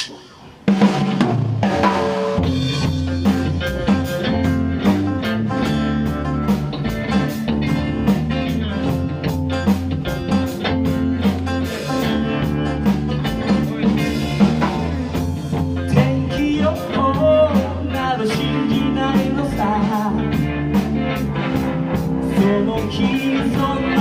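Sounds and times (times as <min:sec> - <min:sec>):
bass: 0:00.0 - 0:24.0
drum kit steady beat: 0:00.0 - 0:24.0
electric guitar: 0:00.0 - 0:24.0.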